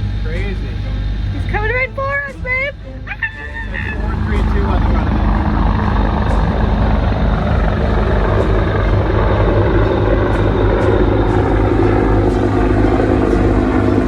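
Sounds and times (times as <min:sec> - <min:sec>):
boat engine running: 0:00.0 - 0:14.0
helicopter rotor beating: 0:00.0 - 0:14.0.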